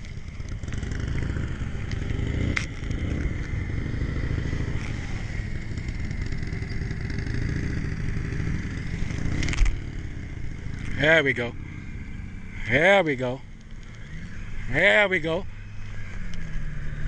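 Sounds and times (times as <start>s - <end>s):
motorcycle engine running at low speed: 0.0s - 17.0s.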